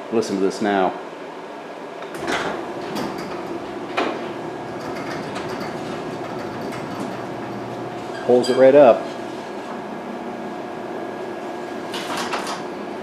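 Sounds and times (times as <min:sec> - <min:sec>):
garage door opener running: 0:02.0 - 0:13.0
garage door rolling up: 0:02.1 - 0:13.0.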